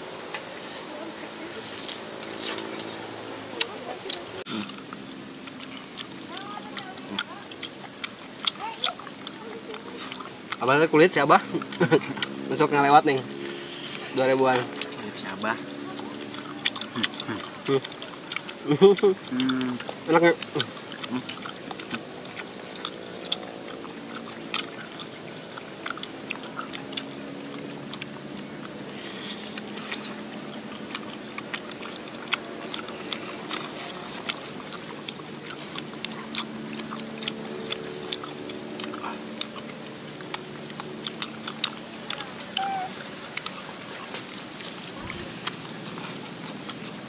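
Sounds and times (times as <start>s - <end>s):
people chewing and eating: 0.0s - 47.0s.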